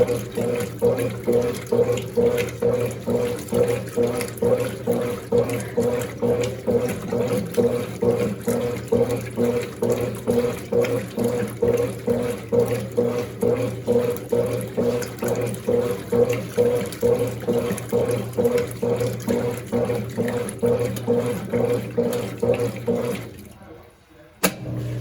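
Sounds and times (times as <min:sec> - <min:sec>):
water sloshing: 0:00.0 - 0:23.9
washing machine agitating: 0:00.0 - 0:25.0.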